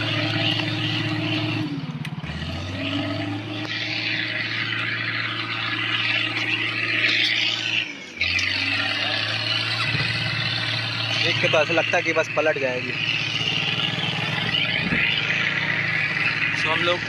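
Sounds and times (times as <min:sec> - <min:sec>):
motorcycle engine straining: 0:00.0 - 0:17.0.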